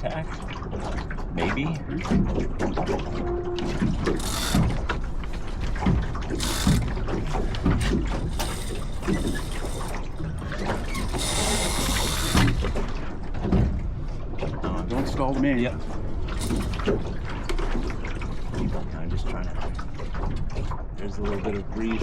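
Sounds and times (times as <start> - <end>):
water lapping at hull: 0.0 - 22.0
boat fittings clicking and knocking: 0.8 - 20.9.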